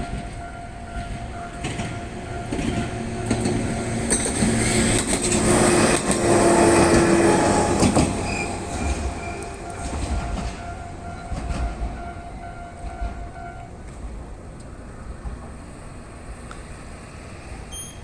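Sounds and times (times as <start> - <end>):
crossing warning signal tone: 0.0 - 14.2, 17.7 - 18.0
train wheels clicking over rail joints: 0.0 - 18.0.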